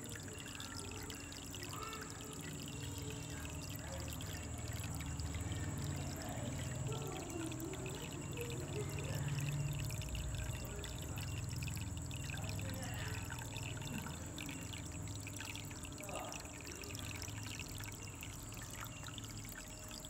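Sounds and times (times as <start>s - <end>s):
water pouring into tub: 0.0s - 20.0s.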